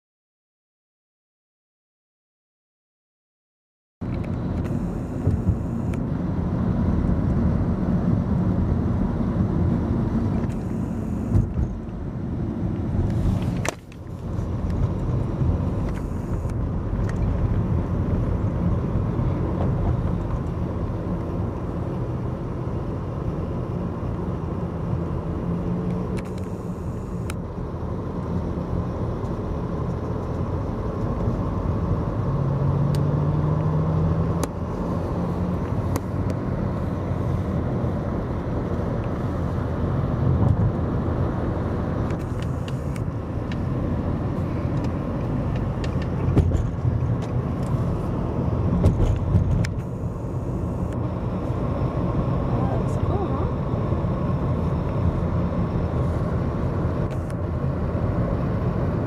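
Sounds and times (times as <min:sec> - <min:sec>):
car interior road rumble: 0:04.0 - 0:59.0.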